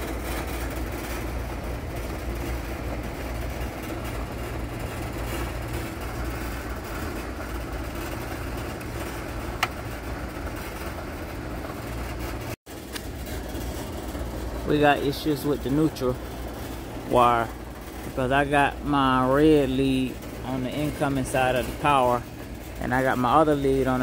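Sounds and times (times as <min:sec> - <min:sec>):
low machinery hum: 0:00.0 - 0:24.0.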